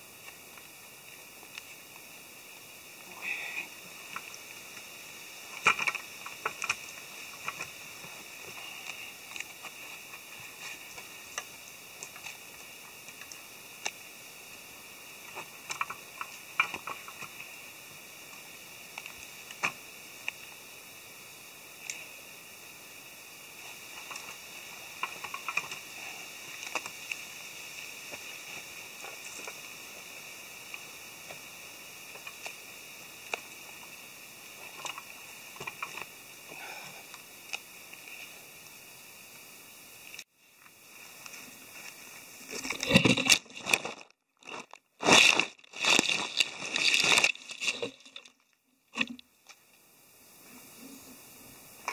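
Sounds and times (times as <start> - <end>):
steady forest hiss: 0.0 - 51.9
light ticks and rustles: 0.1 - 2.2, 3.8 - 20.7, 23.5 - 36.3, 37.1 - 49.9.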